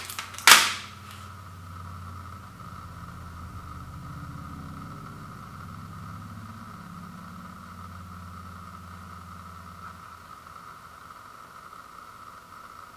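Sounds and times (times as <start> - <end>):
high-pitched whine: 0.0 - 12.9
low mechanical hum: 0.0 - 12.9.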